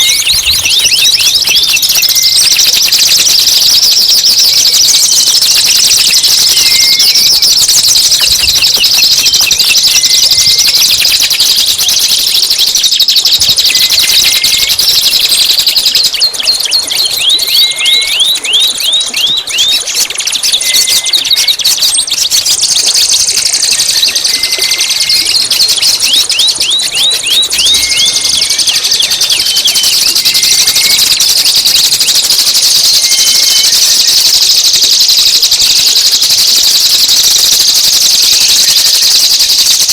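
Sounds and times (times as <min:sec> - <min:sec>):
high-pitched bird trill: 0:00.0 - 0:39.9.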